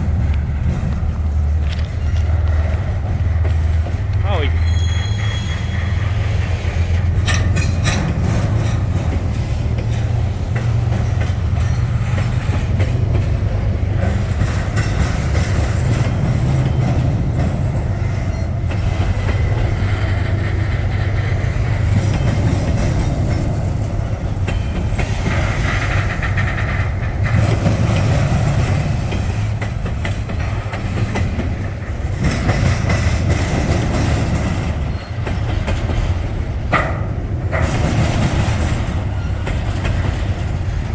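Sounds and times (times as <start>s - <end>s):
freight train rumble: 0.0s - 40.9s
wheels clicking over rail joints: 0.0s - 40.9s.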